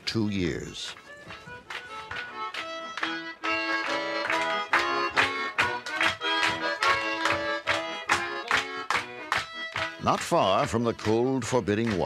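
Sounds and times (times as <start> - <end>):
button accordion playing: 0.5 - 12.0.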